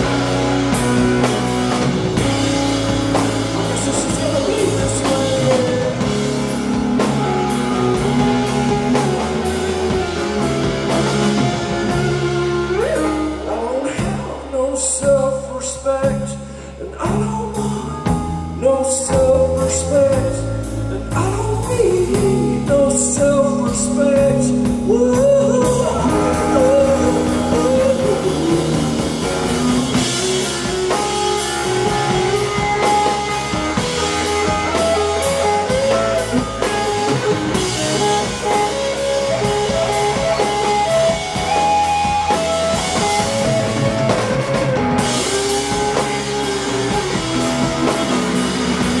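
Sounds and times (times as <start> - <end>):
person singing: 0.0 - 48.4
drums and cymbals: 0.0 - 49.0
rock band playing live: 0.0 - 49.0.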